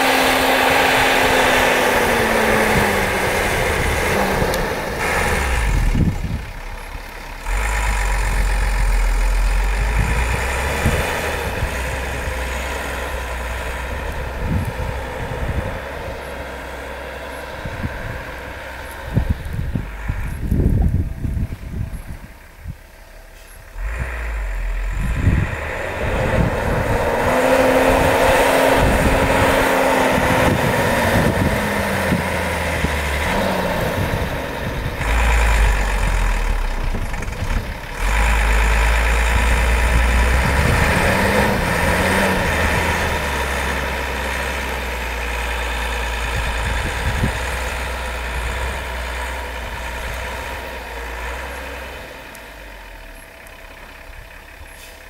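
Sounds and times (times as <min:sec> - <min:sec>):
diesel engine working hard: 0:00.0 - 0:55.0.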